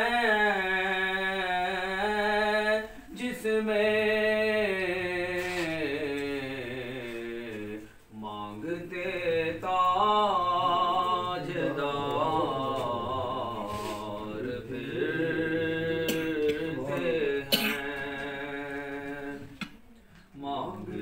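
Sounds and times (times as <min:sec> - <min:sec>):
man chanting: 0:00.0 - 0:19.5.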